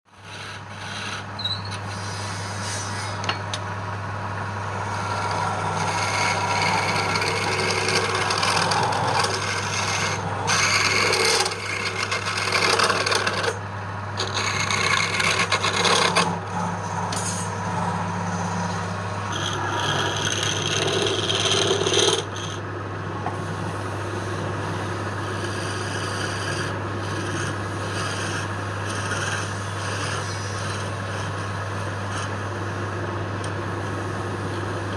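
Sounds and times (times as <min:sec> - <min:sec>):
harsh rasping wood scrape: 0:00.1 - 0:03.2, 0:04.8 - 0:13.6, 0:14.2 - 0:22.6, 0:23.5 - 0:32.8
wood lathe motor hum: 0:00.1 - 0:03.4, 0:04.0 - 0:34.9.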